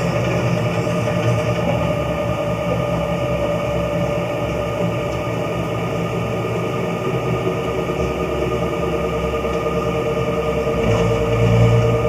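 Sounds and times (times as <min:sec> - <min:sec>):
low motor hum: 0:00.0 - 0:12.0
mill mechanical whine: 0:00.0 - 0:12.0.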